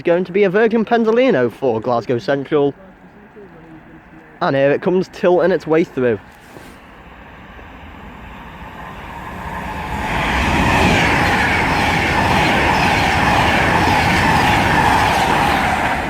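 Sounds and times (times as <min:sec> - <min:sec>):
electric train passing at speed: 0:02.7 - 0:16.0.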